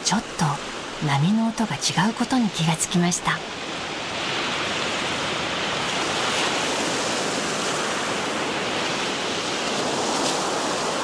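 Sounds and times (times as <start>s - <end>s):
surf washing on sand: 0.0s - 11.0s.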